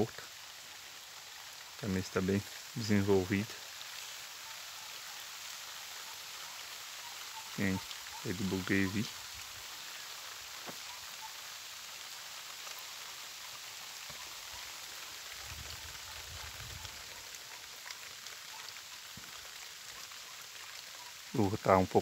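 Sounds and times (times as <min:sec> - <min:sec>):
light rain on vegetation: 0:00.0 - 0:22.0.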